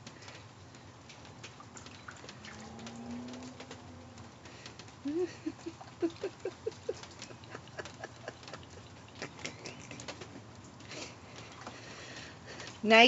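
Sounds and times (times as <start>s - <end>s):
water pattering and splashing: 0.0s - 13.0s.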